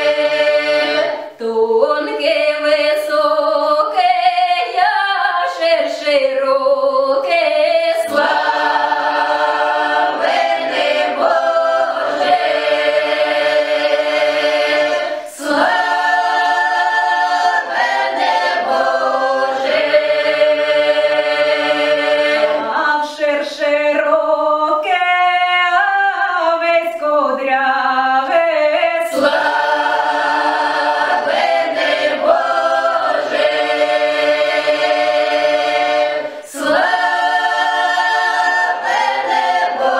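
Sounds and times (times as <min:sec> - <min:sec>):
mixed choir singing a carol: 0:00.0 - 0:39.9.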